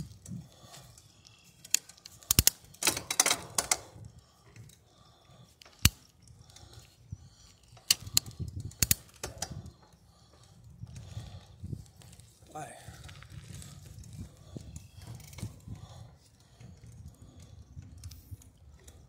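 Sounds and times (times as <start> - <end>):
bicycle rattling on pavement: 0.0 - 19.0.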